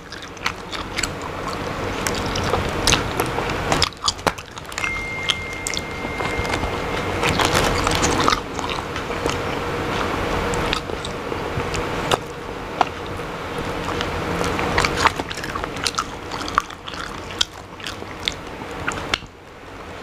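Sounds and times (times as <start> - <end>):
person chewing and biting: 0.0 - 19.3
steady background noise: 0.0 - 20.0.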